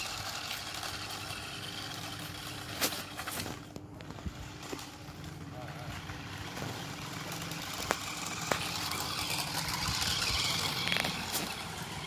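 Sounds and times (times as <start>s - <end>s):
toy car motor whirring: 0.0s - 12.0s.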